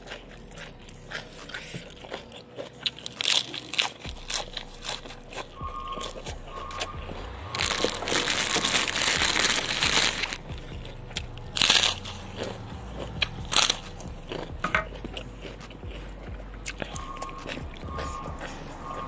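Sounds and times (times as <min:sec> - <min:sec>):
crackers crunching: 0:00.0 - 0:19.0.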